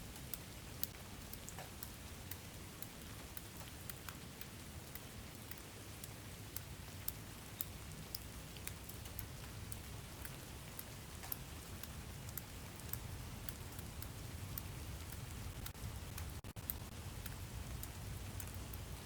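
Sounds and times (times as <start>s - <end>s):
steady rain with ticking drops: 0.0s - 19.0s.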